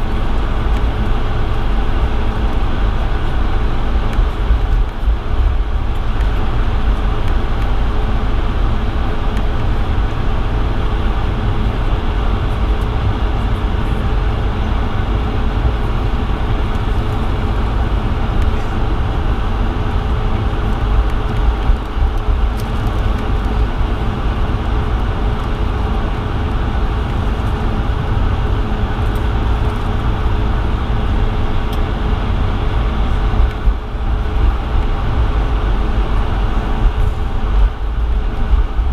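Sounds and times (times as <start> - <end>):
cabin low rumble: 0.0 - 38.9
jet engines humming at idle: 0.0 - 38.9.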